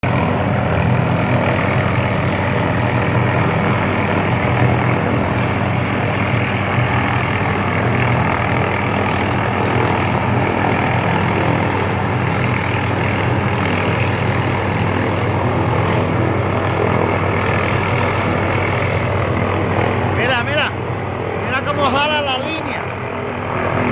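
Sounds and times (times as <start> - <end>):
helicopter engine and rotor drone: 0.0 - 23.9.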